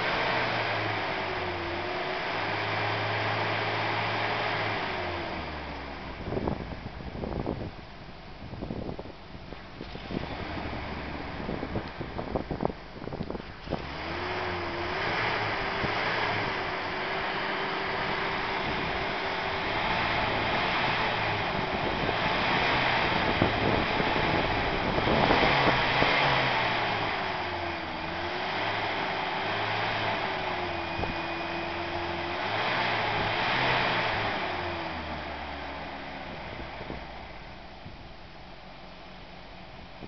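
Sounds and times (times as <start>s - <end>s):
pickup engine revving: 0.0s - 40.0s.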